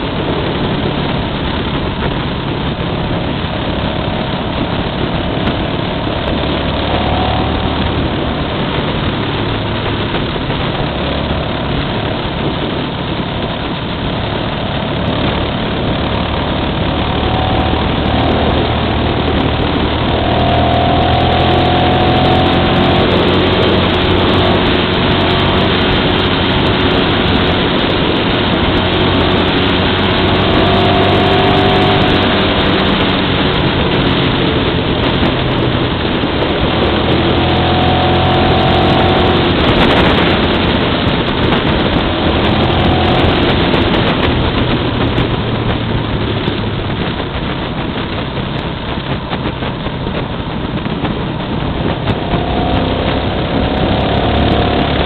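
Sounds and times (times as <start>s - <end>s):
motorcycle engine running: 0.0s - 55.0s
wind and road rushing: 0.0s - 55.0s.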